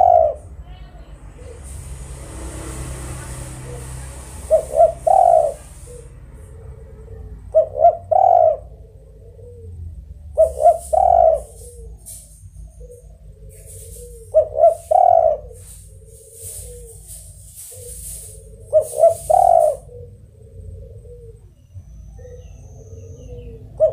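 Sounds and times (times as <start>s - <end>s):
dove cooing: 0.0s - 0.5s, 2.4s - 23.9s.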